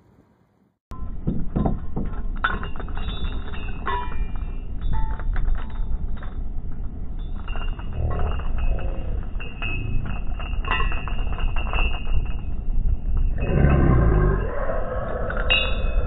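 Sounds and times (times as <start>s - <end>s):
low rumble: 0.9s - 16.0s
anchor chain clinking and rattling: 1.0s - 14.6s.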